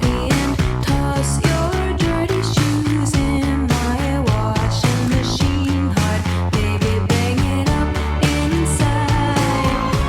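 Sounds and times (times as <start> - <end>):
electronic bass track: 0.0 - 10.0.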